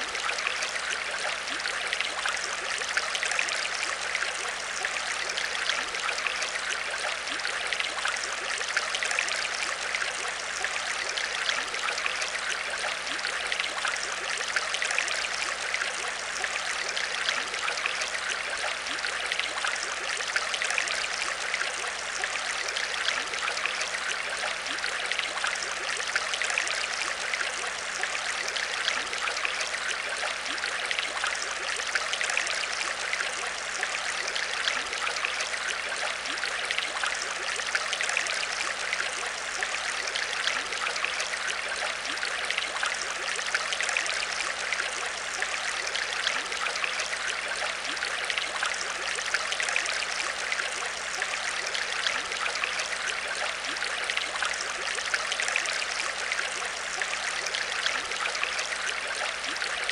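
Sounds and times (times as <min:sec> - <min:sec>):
aquarium water trickling and bubbling: 0:00.0 - 0:59.9.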